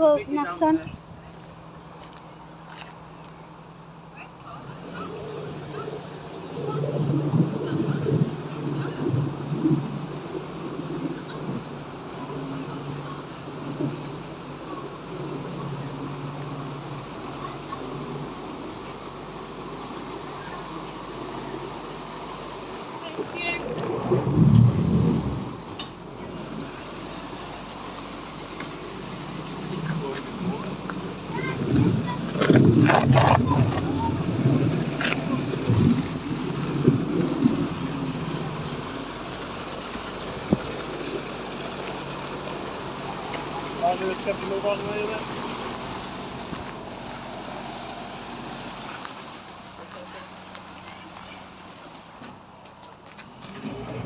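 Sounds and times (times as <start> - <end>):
boat engine running: 0.0 - 54.0
wind buffeting microphone: 4.7 - 48.8.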